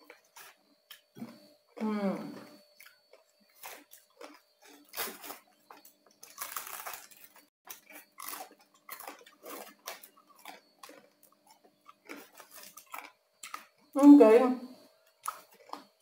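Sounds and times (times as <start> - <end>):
chewing crispy pork: 0.0 - 14.0, 15.0 - 16.0.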